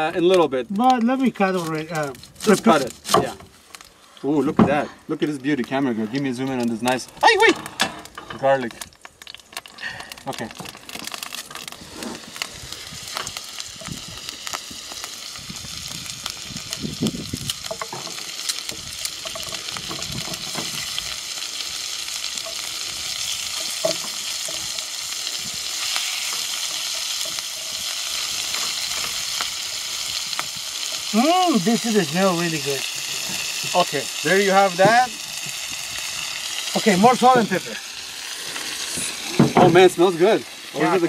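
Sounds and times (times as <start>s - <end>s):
meat sizzling in hot oil: 1.1s - 4.5s, 5.1s - 41.0s.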